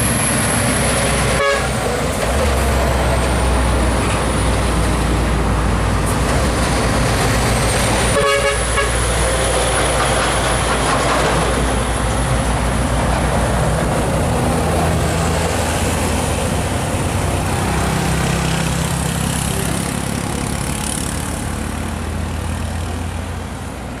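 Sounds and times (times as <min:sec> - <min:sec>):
road noise: 0:00.0 - 0:24.0
truck diesel engine droning: 0:00.0 - 0:24.0.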